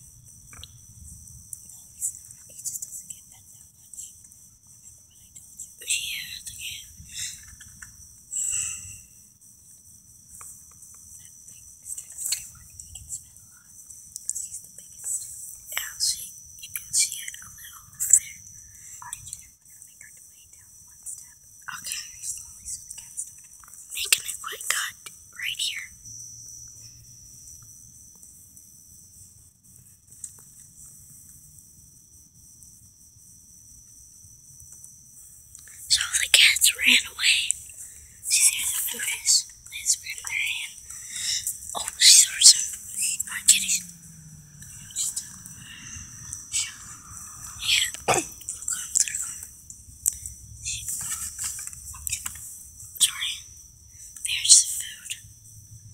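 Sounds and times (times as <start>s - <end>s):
crickets chirping: 0.0s - 55.9s
insects trilling: 0.0s - 55.9s.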